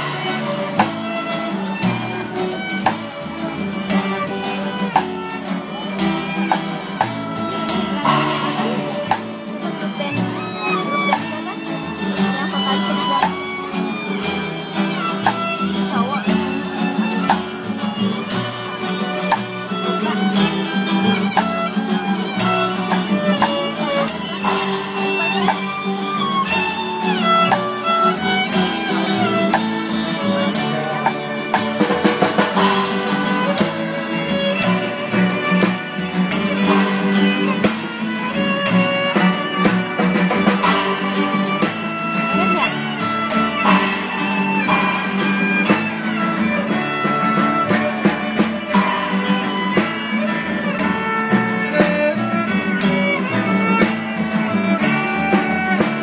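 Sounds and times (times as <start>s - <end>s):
strummed acoustic guitar: 0.0s - 56.0s
violin melody: 0.0s - 56.0s.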